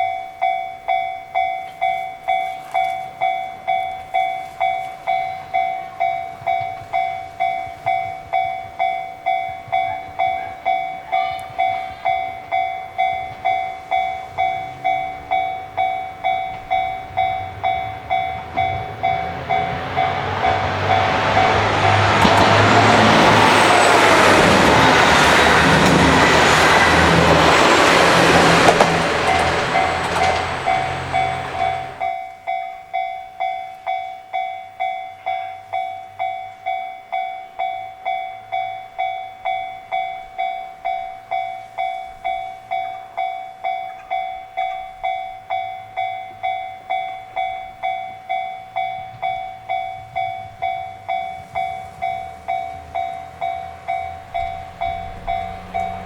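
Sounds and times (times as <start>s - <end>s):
crossing warning bell dinging: 0.0s - 56.0s
train rumbling: 1.4s - 32.3s, 38.4s - 56.0s.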